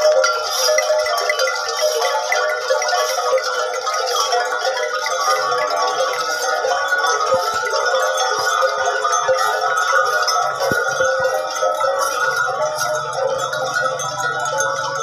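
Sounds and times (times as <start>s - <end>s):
cattle bells jangling: 0.0s - 15.0s.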